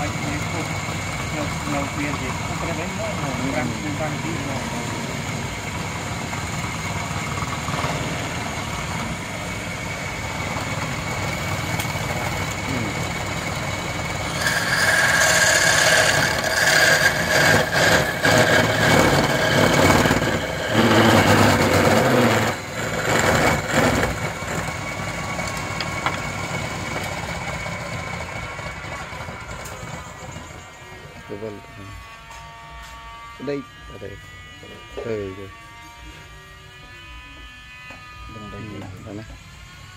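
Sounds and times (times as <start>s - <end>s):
sanding rasp with high whine: 0.0s - 28.2s, 29.8s - 39.9s
wood lathe humming: 0.0s - 32.4s.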